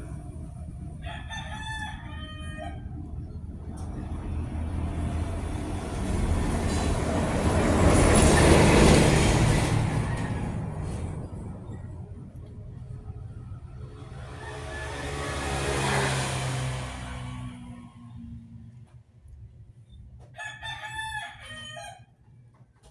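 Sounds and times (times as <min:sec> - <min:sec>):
vehicle passing by: 0:00.0 - 0:19.0.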